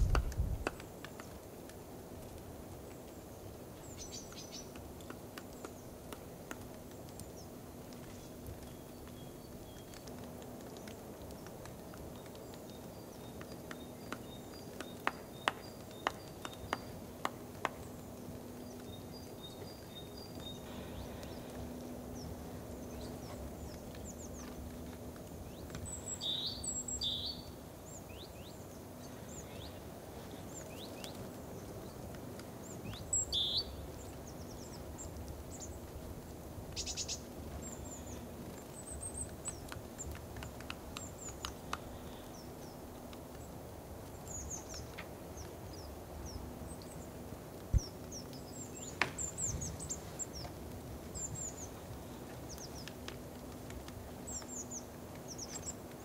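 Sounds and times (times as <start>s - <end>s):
faint steady hum: 0.0s - 56.0s
wild birds chirping: 2.8s - 56.0s.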